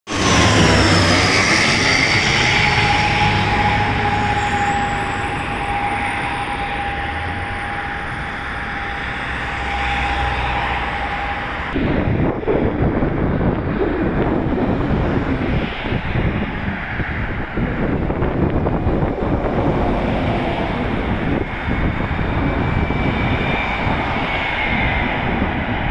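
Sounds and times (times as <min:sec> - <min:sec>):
turboprop airliner droning: 0:00.1 - 0:25.9
wind buffeting microphone: 0:00.1 - 0:25.9.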